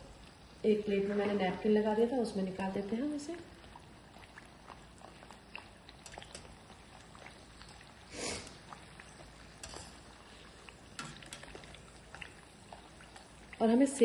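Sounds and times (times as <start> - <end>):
food sizzling in hot oil: 0.0 - 14.0
spoon swishing through oil: 2.6 - 14.0.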